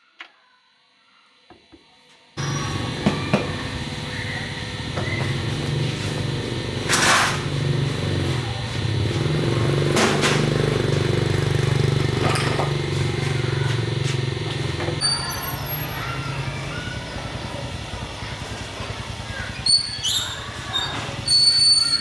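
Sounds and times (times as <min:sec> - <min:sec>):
small motorcycle engine running: 0:02.4 - 0:22.0.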